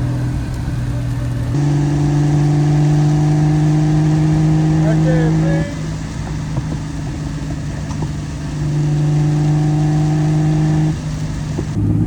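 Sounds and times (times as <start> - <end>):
car engine droning: 0.0 - 12.0
heavy rain on car: 0.0 - 12.0
road noise: 0.0 - 12.0.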